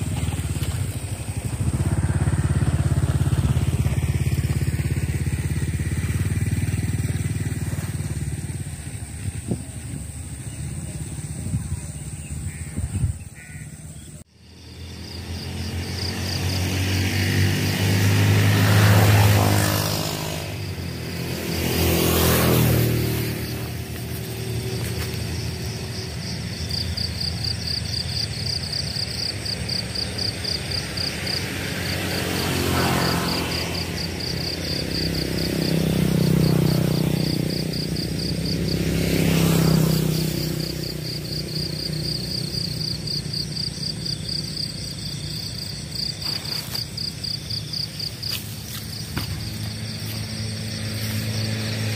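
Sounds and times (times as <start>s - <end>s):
insects trilling: 0.0s - 51.9s
vehicles passing on road: 0.0s - 51.9s.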